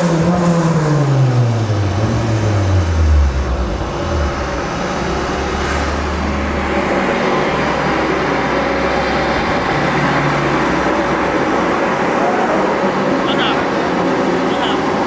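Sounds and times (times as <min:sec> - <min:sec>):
car engine idling: 0:00.0 - 0:15.0
large cooling fan rushing: 0:01.6 - 0:15.0.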